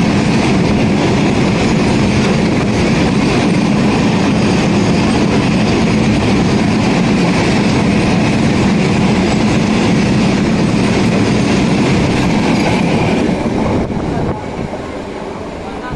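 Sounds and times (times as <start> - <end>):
freight train wheels rumbling: 0.0 - 15.9.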